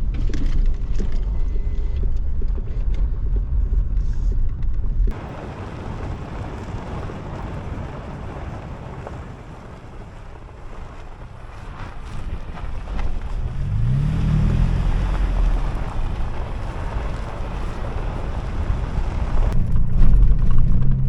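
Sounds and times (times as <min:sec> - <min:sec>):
tyres and engine rumble: 0:00.0 - 0:21.0
wind buffeting microphone: 0:00.0 - 0:21.0.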